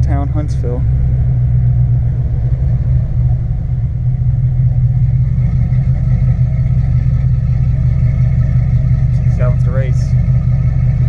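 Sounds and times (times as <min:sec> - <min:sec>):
pickup truck engine droning: 0:00.0 - 0:11.0.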